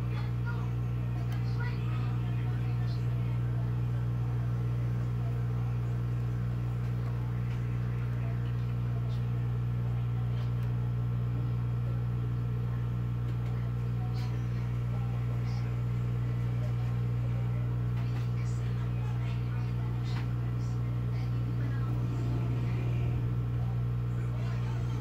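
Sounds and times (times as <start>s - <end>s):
hot-air station humming and hissing: 0.0s - 25.0s.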